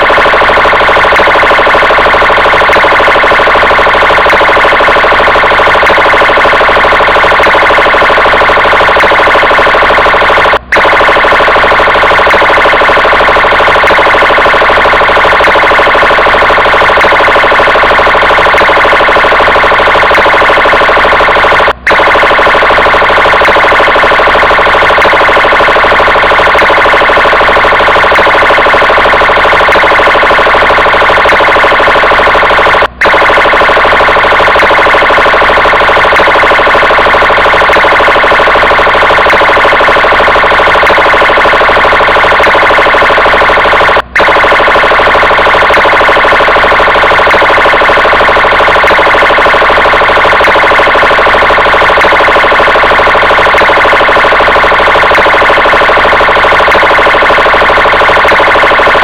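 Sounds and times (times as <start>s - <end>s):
police car siren: 0.0s - 59.0s.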